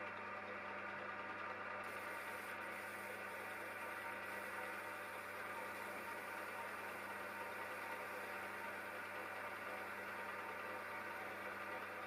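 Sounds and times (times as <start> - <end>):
lathe motor hum and whir: 0.0 - 12.0.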